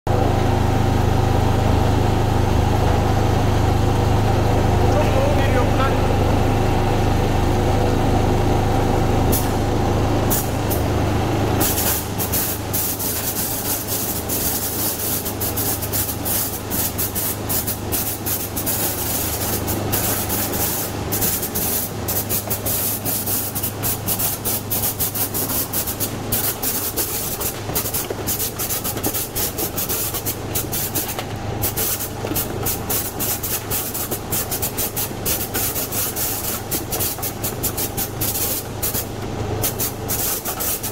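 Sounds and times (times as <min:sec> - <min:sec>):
low machine hum: 0:00.1 - 0:40.9.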